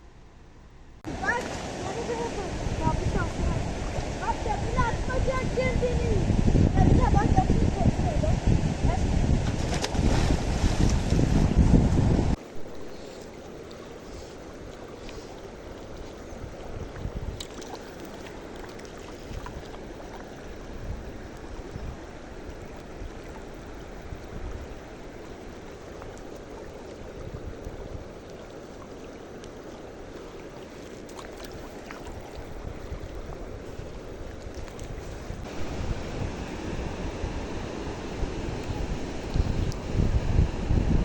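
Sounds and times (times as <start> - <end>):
river rushing: 1.0 - 41.0.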